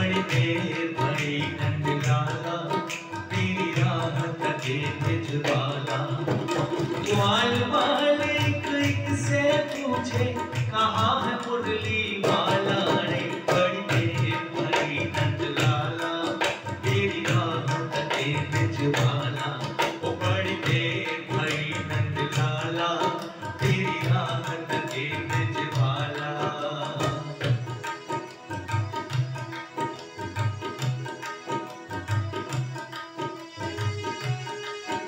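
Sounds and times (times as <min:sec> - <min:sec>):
tabla rhythm: 0:00.0 - 0:35.0.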